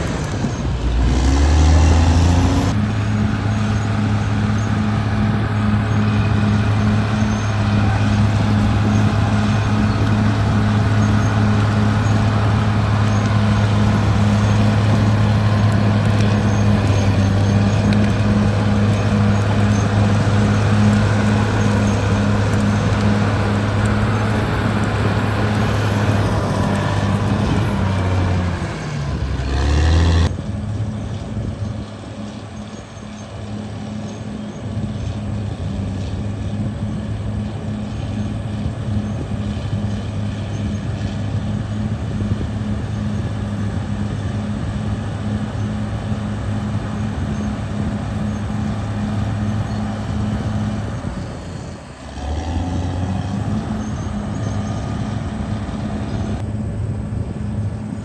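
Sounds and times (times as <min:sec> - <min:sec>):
bulldozer diesel engine running: 0:00.0 - 0:56.6.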